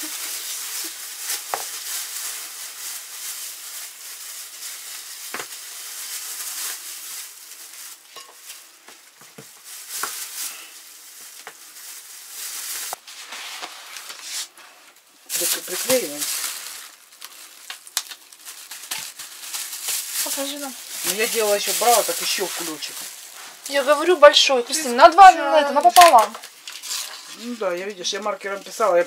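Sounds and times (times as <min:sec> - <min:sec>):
plastic bags crinkling: 0:00.0 - 0:29.0.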